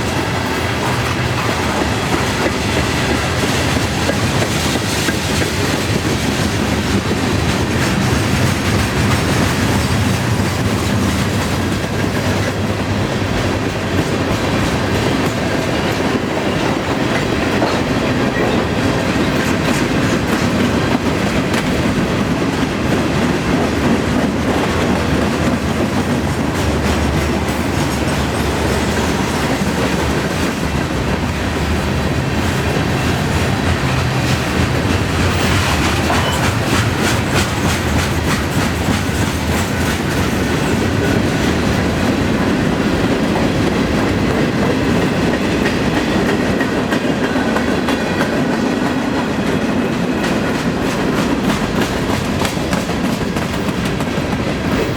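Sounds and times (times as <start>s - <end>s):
freight train rumble: 0.0s - 54.9s
wheels clicking over rail joints: 0.0s - 54.9s.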